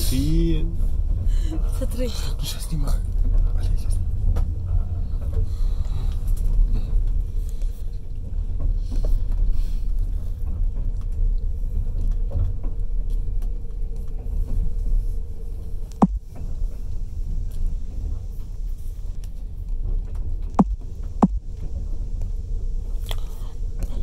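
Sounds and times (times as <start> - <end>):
light clicks of train: 0.0 - 24.0
train rumbling on tracks: 0.0 - 24.0.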